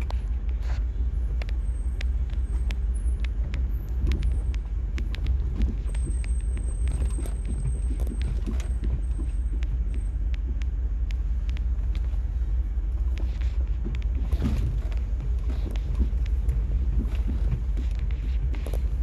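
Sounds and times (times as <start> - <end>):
car cabin rumble: 0.0 - 19.0
light clicks and rattles: 0.0 - 19.0.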